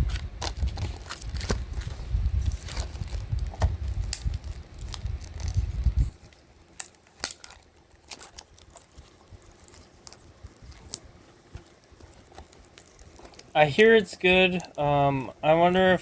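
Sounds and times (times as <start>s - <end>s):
plastic clicks and crinkles: 0.1s - 14.9s.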